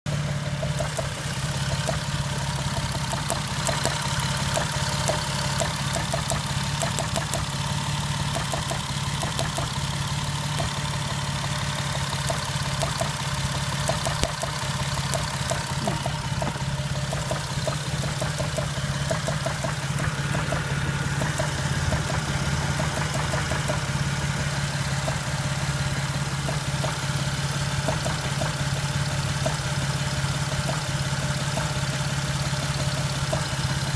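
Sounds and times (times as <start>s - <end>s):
engine idling roughly with knock: 0.1s - 33.9s.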